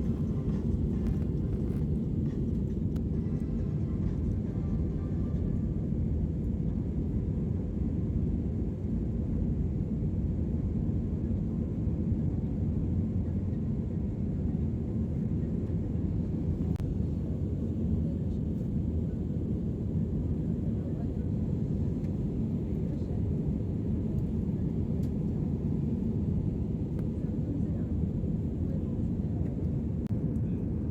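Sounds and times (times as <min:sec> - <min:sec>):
airliner cabin engine rumble: 0:00.0 - 0:30.9.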